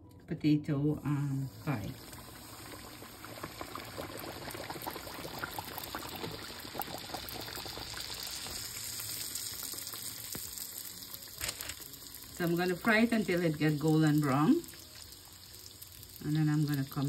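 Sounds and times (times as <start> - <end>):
dough deep-frying in hot oil: 1.1 - 17.0.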